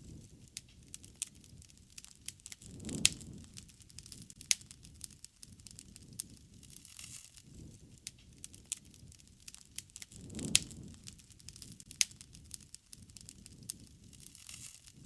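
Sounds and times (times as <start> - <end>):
campfire crackling and popping: 0.0 - 15.0
low rumble of burning: 0.0 - 15.0.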